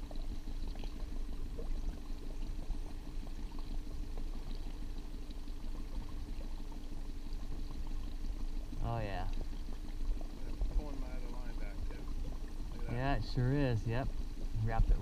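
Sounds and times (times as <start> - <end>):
outboard motor running: 0.0 - 15.0
water churning and gurgling: 0.0 - 15.0.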